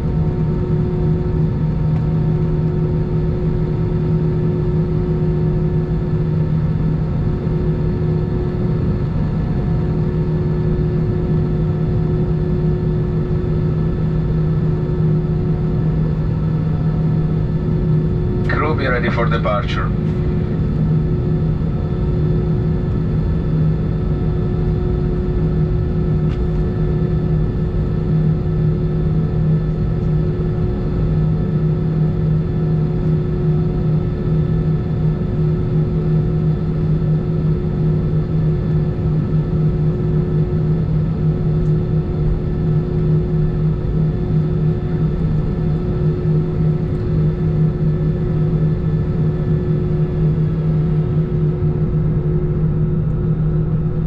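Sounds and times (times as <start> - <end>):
constant low hum: 0.0 - 54.0
jet engines droning: 0.0 - 54.0.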